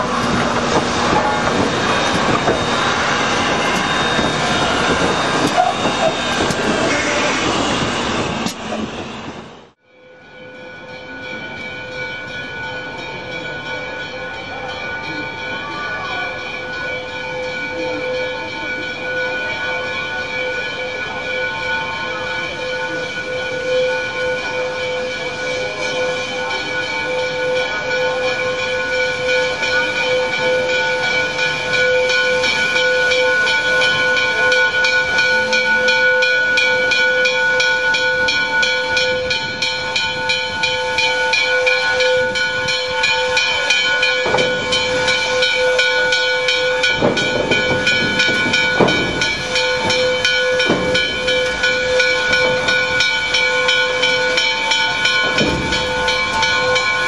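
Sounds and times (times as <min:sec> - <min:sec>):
steam locomotive hissing: 0:00.0 - 0:09.8, 0:11.1 - 0:57.0
steady ringing note: 0:00.0 - 0:57.0.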